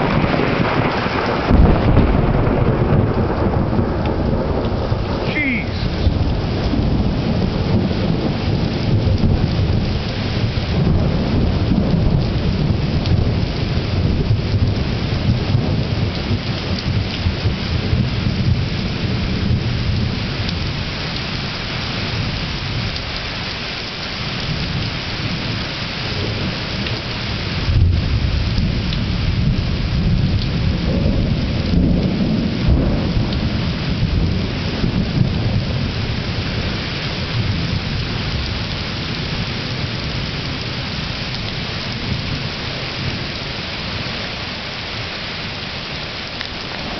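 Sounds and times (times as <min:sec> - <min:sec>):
thunder clap: 0:00.0 - 0:20.5, 0:27.7 - 0:44.2, 0:46.4 - 0:46.9
steady rain: 0:00.0 - 0:46.9
thunder rumbling: 0:00.0 - 0:46.9.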